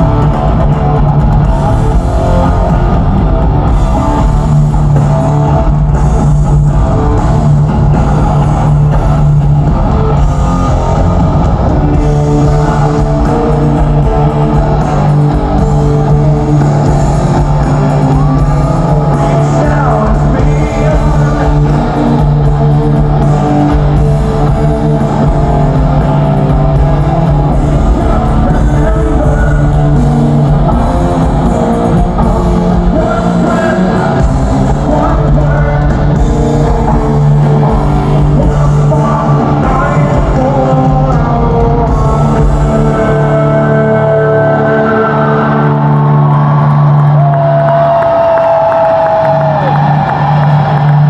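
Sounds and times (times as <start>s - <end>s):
person singing: 0.0s - 47.2s
bass guitar: 0.0s - 51.0s
drums: 0.0s - 51.0s
electric guitar: 0.0s - 51.0s.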